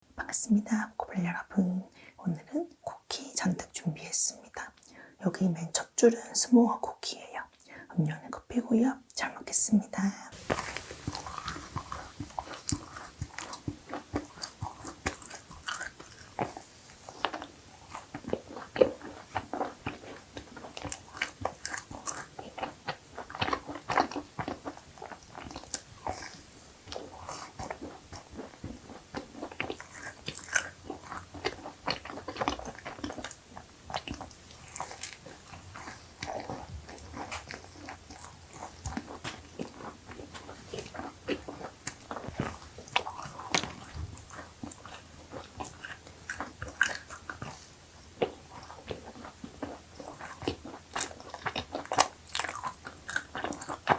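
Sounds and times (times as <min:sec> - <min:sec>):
soft chewing: 0:10.3 - 0:53.9
cookie crunching: 0:10.4 - 0:53.9.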